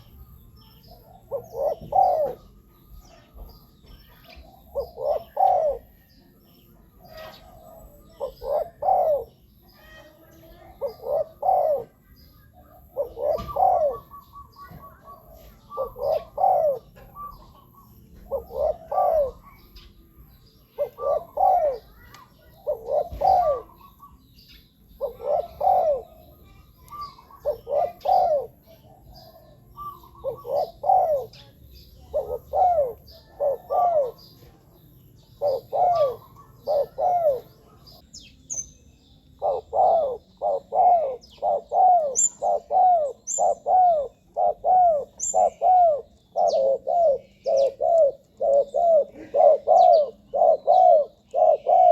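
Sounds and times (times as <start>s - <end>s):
dove cooing: 0.0s - 24.2s, 24.8s - 38.0s, 39.4s - 51.9s.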